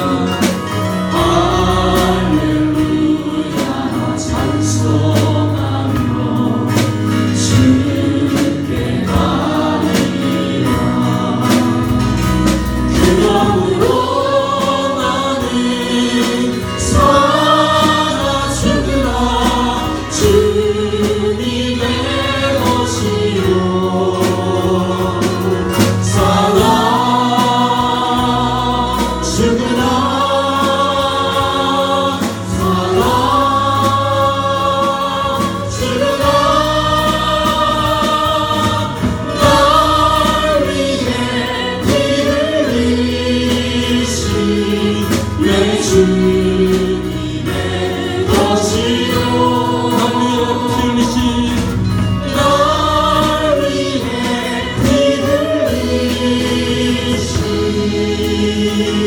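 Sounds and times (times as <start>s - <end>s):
group of voices singing: 0.0s - 59.0s
instrumental accompaniment: 0.0s - 59.0s.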